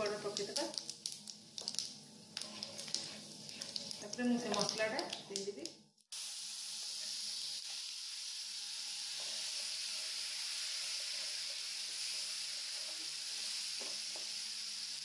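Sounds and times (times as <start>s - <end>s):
paste sizzling in hot oil: 0.0s - 5.2s, 6.1s - 15.0s.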